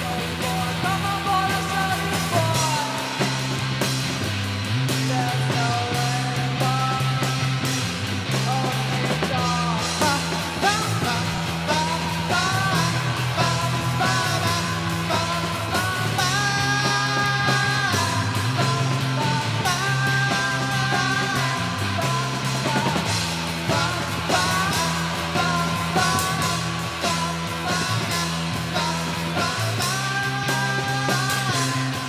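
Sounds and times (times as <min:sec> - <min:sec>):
person singing: 0:00.0 - 0:03.6, 0:05.0 - 0:32.0
rock band playing live: 0:00.0 - 0:32.0.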